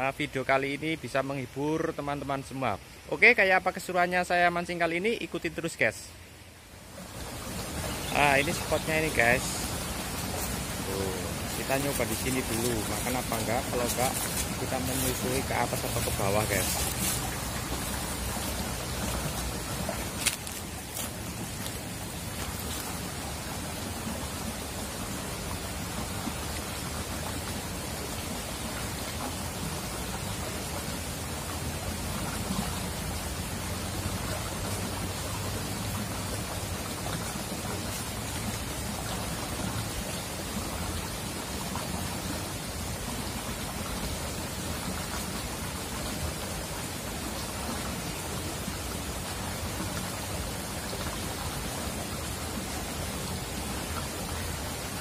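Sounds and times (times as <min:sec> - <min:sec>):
river flowing over rocks: 0:00.4 - 0:55.0.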